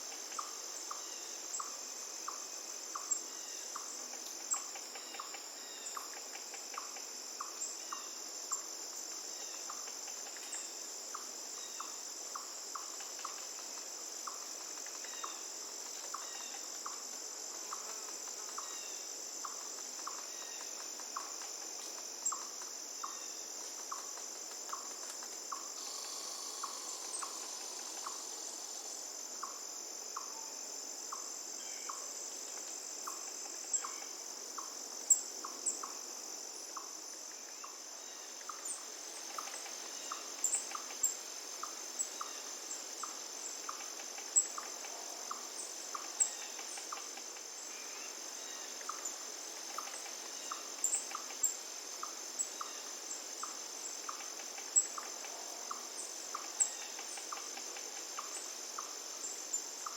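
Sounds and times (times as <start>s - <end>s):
crickets droning: 0.0s - 59.9s.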